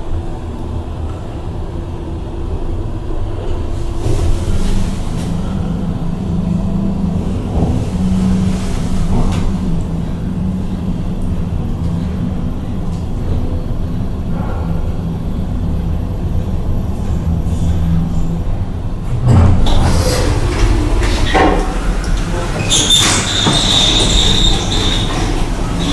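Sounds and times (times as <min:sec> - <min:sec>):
elevator humming: 0:03.2 - 0:25.9.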